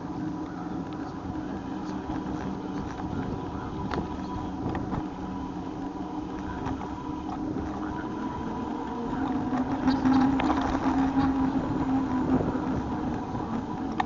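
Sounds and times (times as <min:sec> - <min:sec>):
bike running noise: 0:00.0 - 0:14.0
low hum: 0:00.0 - 0:14.0.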